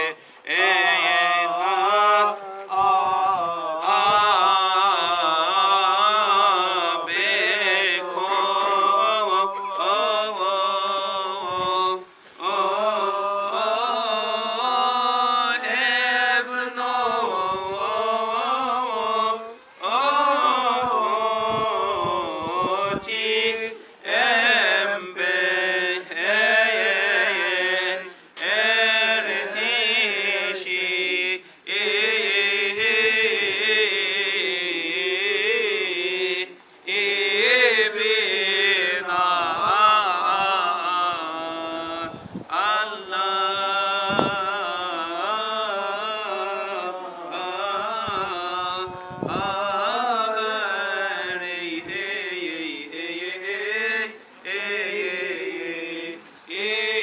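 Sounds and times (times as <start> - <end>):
voices chanting: 0.0 - 57.0.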